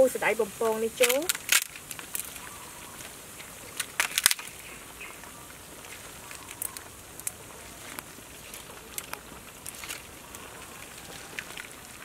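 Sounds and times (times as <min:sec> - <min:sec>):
soft steady hiss: 0:00.0 - 0:12.0.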